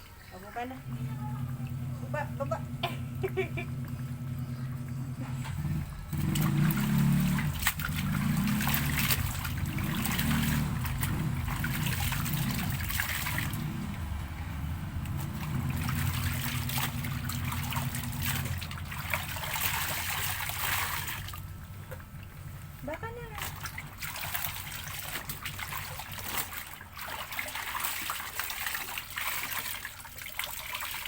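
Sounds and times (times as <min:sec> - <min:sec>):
steady low hum: 0:00.0 - 0:27.4
water trickling and splashing: 0:00.0 - 0:31.0.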